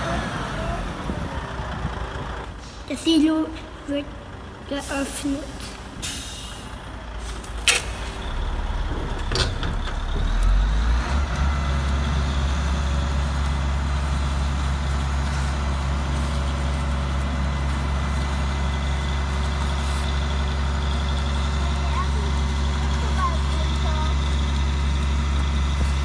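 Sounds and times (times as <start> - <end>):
simulated diesel engine drone: 0.0 - 26.0.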